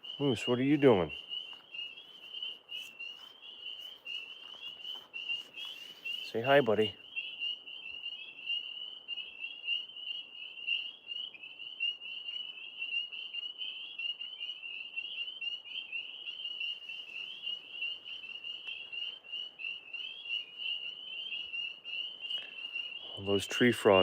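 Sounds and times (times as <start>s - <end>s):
tree frogs chorus trilling: 0.0s - 24.0s.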